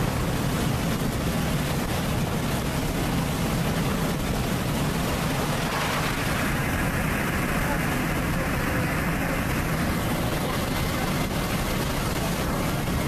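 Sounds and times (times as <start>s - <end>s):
fighter jet engines roaring: 0.0s - 13.0s.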